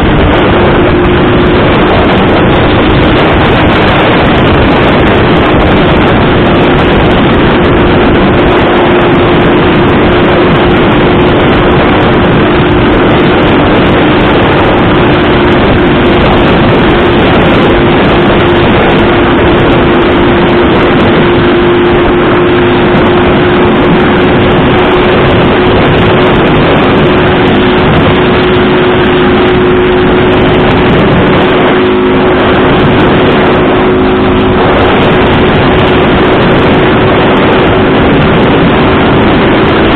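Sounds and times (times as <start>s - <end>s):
vehicle engine running: 0.0s - 39.9s
wind and road noise: 0.0s - 39.9s.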